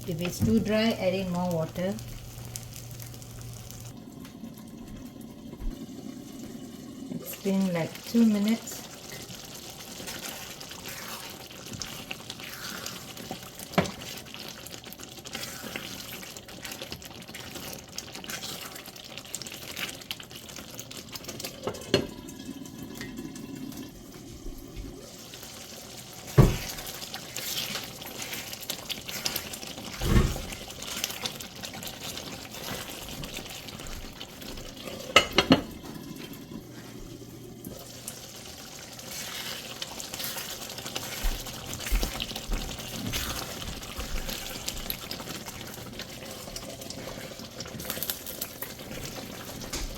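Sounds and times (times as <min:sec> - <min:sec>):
thick gravy bubbling: 0:00.0 - 0:49.9.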